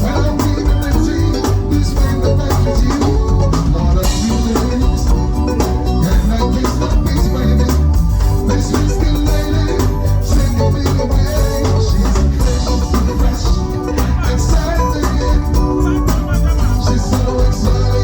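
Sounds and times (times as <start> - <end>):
band music: 0.0 - 18.0
person singing: 0.0 - 18.0.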